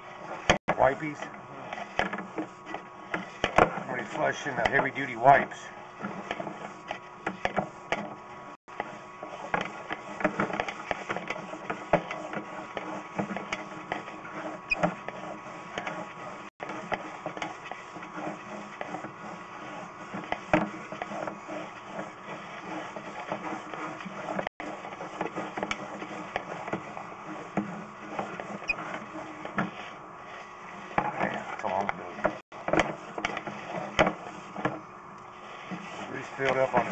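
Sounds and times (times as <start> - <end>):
camera clicking and scraping in pipe: 6.0 - 36.9.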